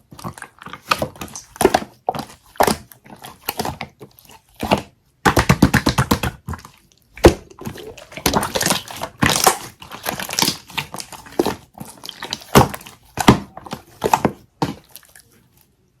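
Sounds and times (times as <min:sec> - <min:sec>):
slime squishing and popping: 0:00.0 - 0:15.3.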